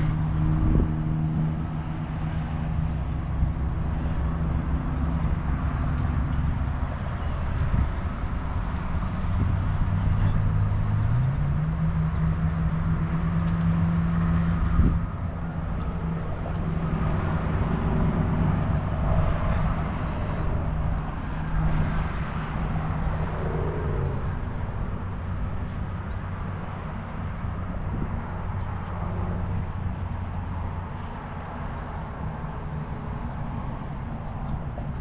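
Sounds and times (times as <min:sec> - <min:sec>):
engine drone: 0:00.0 - 0:35.0
road traffic rumble: 0:00.0 - 0:35.0.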